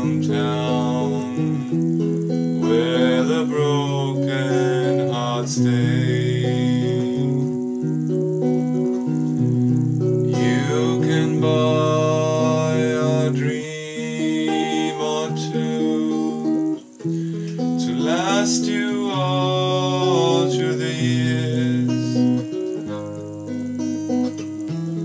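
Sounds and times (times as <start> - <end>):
man singing long notes: 0.0 - 7.8, 10.2 - 23.0
guitar chords: 0.0 - 25.0.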